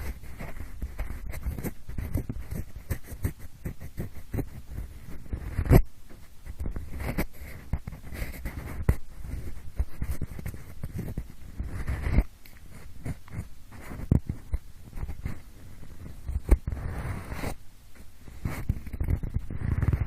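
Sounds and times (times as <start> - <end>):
pencil scratching against microphone: 0.0 - 17.6, 18.3 - 20.0.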